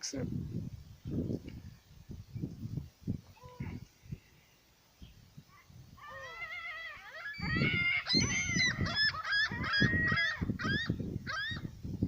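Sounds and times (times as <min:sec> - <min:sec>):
birds calling: 0:00.9 - 0:11.8.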